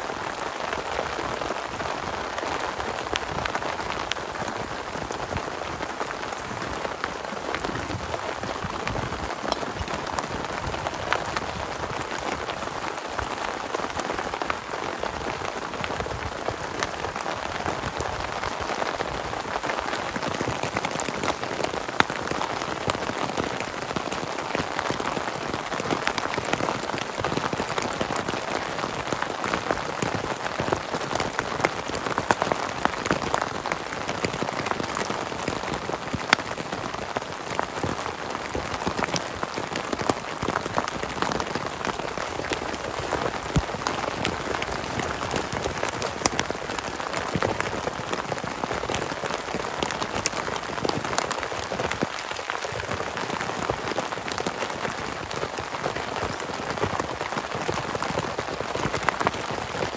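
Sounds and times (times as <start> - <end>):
heavy rain on a tent: 0.0 - 59.9.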